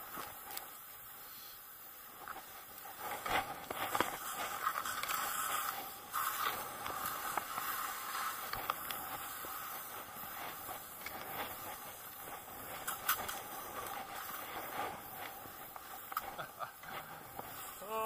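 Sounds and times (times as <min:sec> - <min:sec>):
snow crunches: 0:00.0 - 0:18.0
snow hissing under a snowboard: 0:00.0 - 0:18.0.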